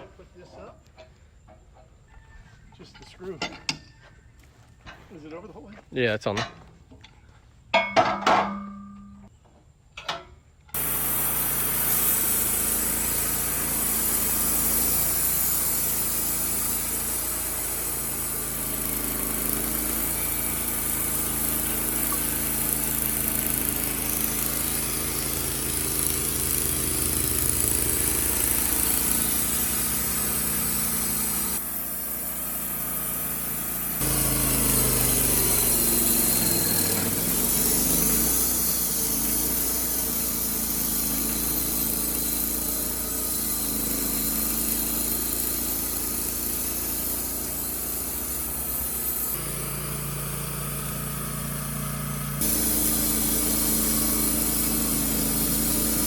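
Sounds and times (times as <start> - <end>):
small gas engine running: 10.7 - 56.0.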